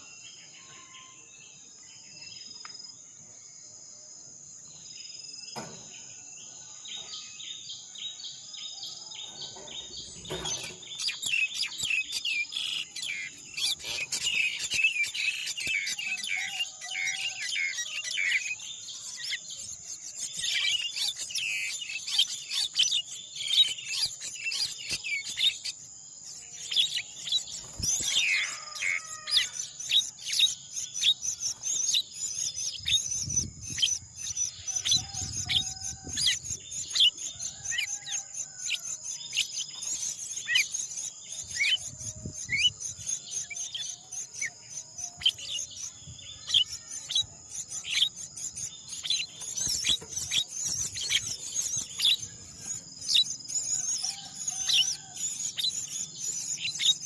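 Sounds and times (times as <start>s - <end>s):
birds chirping: 0.0s - 57.0s
warbled bird calls: 8.3s - 57.0s.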